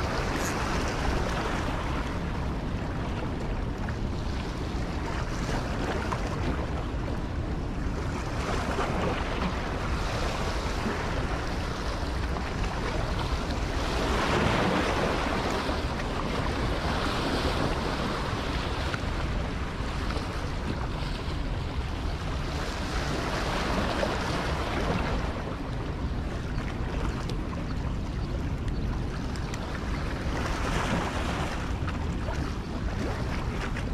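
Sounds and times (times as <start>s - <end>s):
rushing water: 0.0s - 33.9s
wind buffeting microphone: 0.0s - 33.9s.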